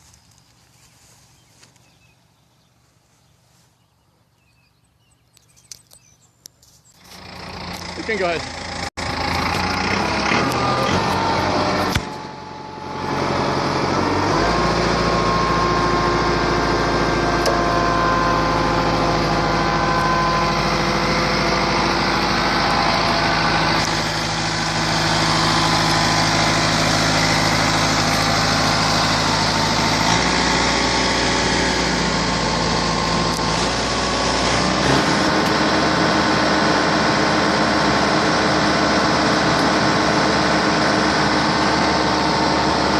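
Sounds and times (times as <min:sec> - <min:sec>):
engine running hydraulic winch: 0:06.9 - 0:42.9.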